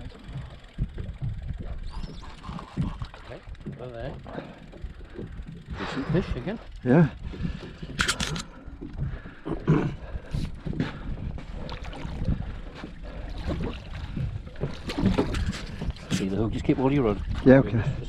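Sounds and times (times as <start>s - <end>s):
wind and water against boat: 0.0s - 18.0s.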